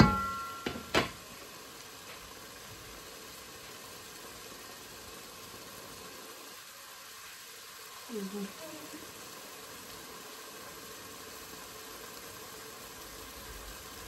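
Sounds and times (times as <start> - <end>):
garlic sizzling in oil: 0.0 - 14.0.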